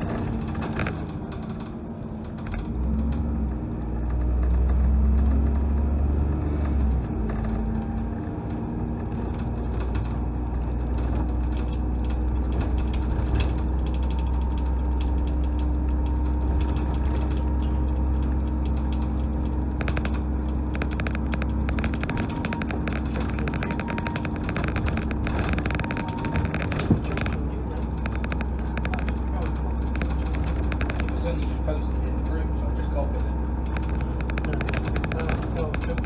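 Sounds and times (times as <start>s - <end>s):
bus body rattling and clicking: 0.0s - 36.0s
bus diesel engine drone: 0.0s - 36.0s.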